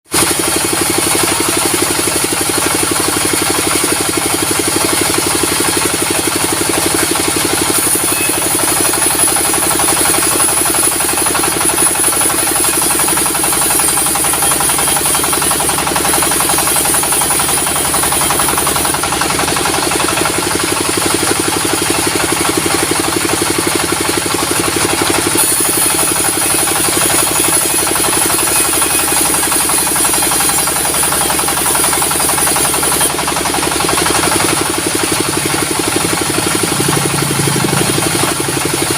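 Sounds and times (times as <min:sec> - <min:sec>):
diesel engine pulsing: 0:00.1 - 0:38.9.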